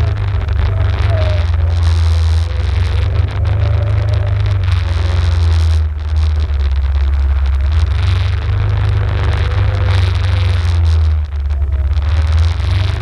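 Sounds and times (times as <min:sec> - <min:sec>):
atv engine running: 0:00.0 - 0:13.0
faint steady whine: 0:00.0 - 0:13.0
wind buffeting microphone: 0:00.0 - 0:13.0.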